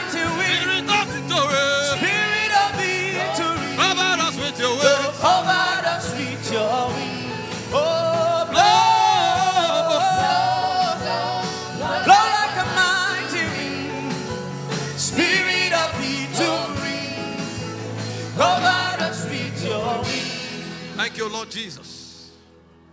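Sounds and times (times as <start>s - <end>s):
gospel singing: 0.0s - 21.4s
sustained instrumental backing: 0.0s - 22.9s.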